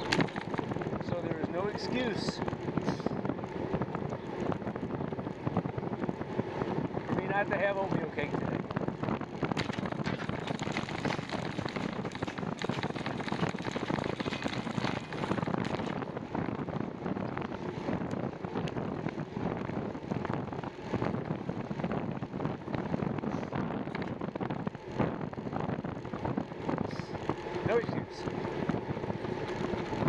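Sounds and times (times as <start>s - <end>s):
bicycle tyres on trail: 0.0s - 30.0s
wind buffeting microphone: 0.0s - 30.0s.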